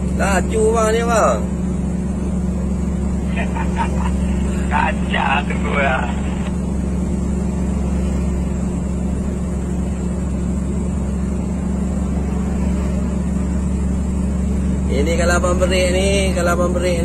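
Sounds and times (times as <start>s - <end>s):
road noise: 0.0s - 17.0s
truck engine drone in cab: 0.0s - 17.0s.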